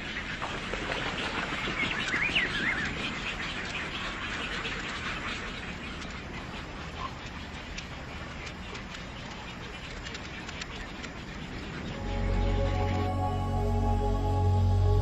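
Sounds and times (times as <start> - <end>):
bird warbling call: 0.0 - 13.8
birds chirping: 0.0 - 15.0.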